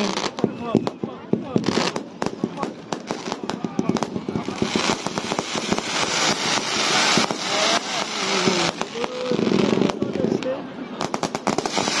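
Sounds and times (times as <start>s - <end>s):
fireworks crackling: 0.0s - 12.0s
fireworks popping and banging: 0.0s - 12.0s.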